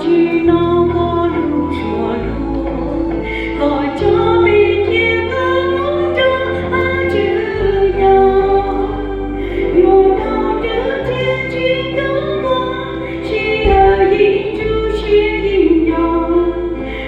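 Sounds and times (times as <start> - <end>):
sustained low accompaniment: 0.0 - 17.0
women singing a hymn: 0.0 - 17.0.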